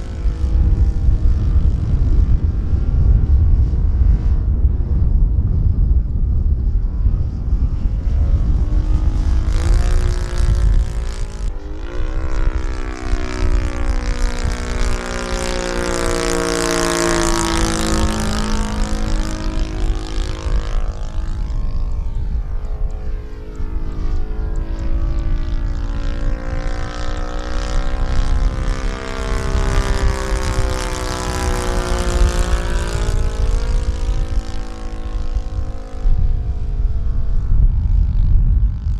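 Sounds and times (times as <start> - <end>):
model airplane engine: 0.0 - 38.9
wind on microphone: 0.0 - 38.9.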